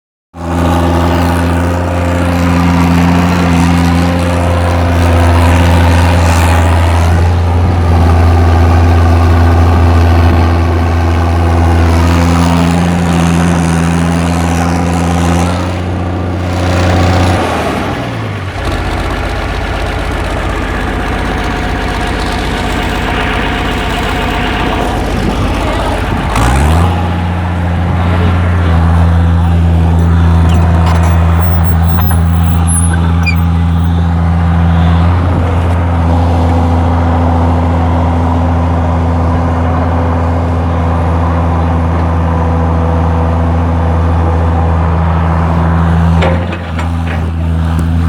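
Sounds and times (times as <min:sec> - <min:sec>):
tractor diesel engine: 0:00.3 - 0:48.0.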